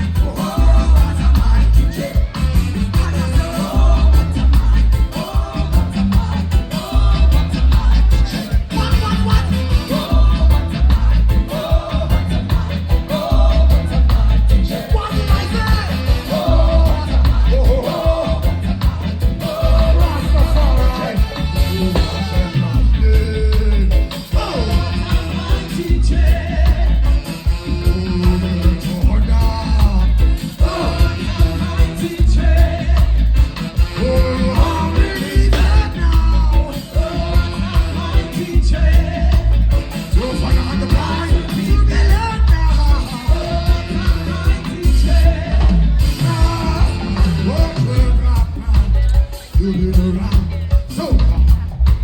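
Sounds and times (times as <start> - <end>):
heavy pulsing bass line: 0.0 - 52.0
live reggae band: 0.0 - 52.0
man singing: 0.0 - 52.0.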